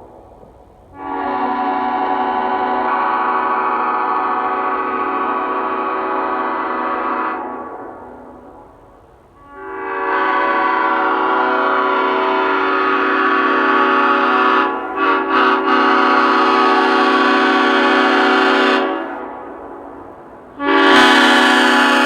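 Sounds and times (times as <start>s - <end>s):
air horn chord: 1.0s - 7.8s, 9.4s - 19.4s, 20.6s - 22.0s.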